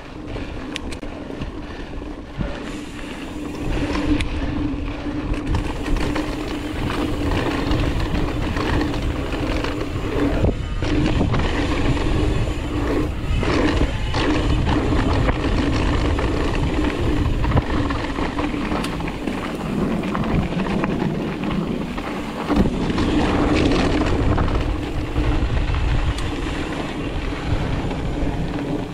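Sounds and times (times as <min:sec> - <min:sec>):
bike tyres rolling: 0:00.0 - 0:28.9
constant hum: 0:00.0 - 0:28.9
wind on microphone: 0:00.0 - 0:28.9.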